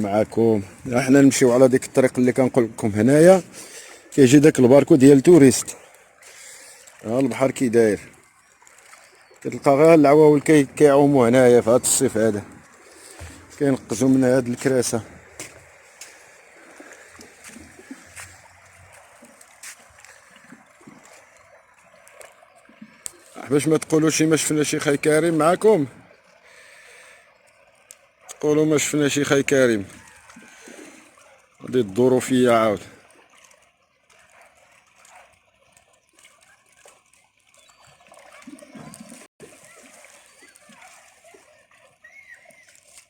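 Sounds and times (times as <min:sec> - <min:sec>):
faint seawater lapping: 0:00.0 - 0:43.0
small water splashes: 0:00.0 - 0:43.0.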